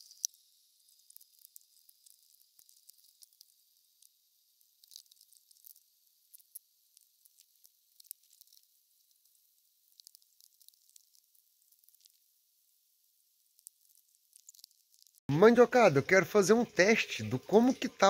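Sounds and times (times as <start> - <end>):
small ticks: 0.0 - 15.3.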